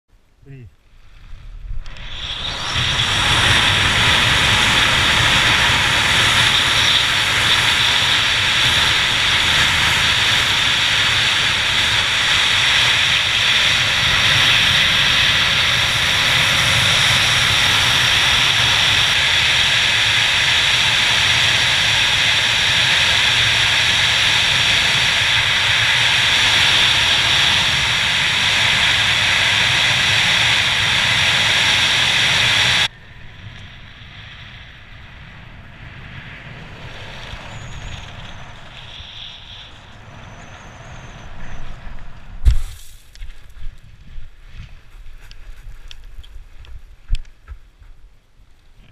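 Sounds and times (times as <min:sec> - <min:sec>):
wind rushing over microphone: 0:00.4 - 0:47.7.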